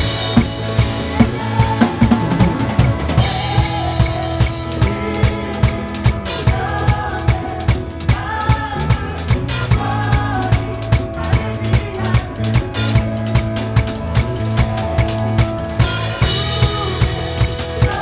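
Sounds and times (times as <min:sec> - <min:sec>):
band holding chords: 0:00.0 - 0:18.0
drum kit steady beat: 0:00.0 - 0:18.0.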